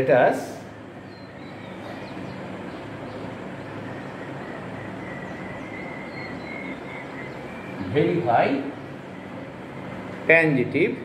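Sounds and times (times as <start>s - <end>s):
background hum and noise: 0.0s - 11.0s
faint high whine: 0.0s - 11.0s.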